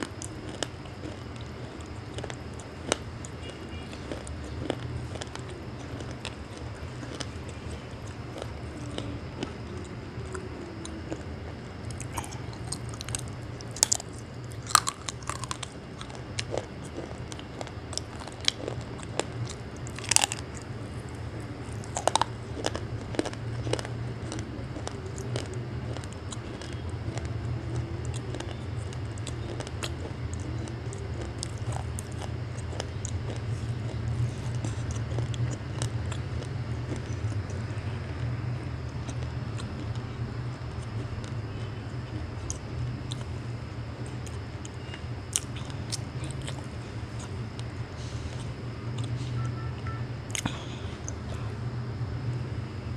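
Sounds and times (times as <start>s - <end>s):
crunchy chewing: 0.0s - 52.8s
steady low hum: 0.0s - 52.9s.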